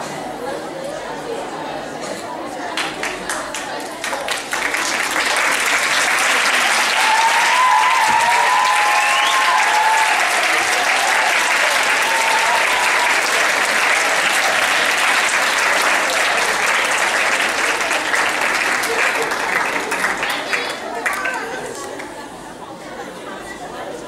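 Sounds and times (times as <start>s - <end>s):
audience applauding: 2.8s - 22.1s.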